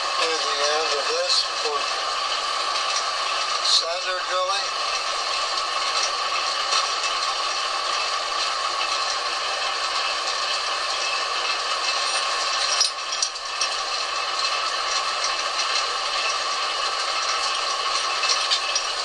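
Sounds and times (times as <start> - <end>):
metal lathe whirring: 0.0 - 19.0.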